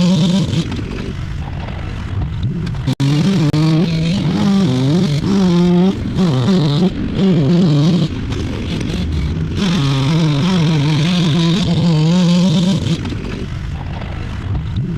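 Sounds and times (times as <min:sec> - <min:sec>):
engine running and revving: 0:00.0 - 0:14.9.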